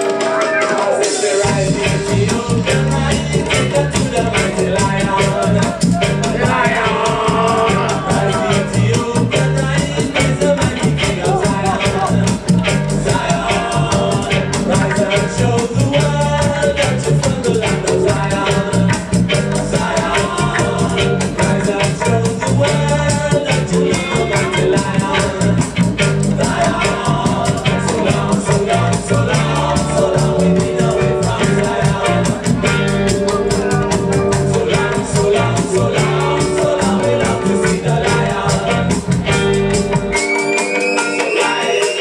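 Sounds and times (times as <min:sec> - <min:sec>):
drum beat with fast hi-hats: 0:00.0 - 0:42.0
person singing: 0:00.0 - 0:42.0
reggae music over sound system: 0:00.0 - 0:42.0
heavy bass line: 0:01.1 - 0:40.2.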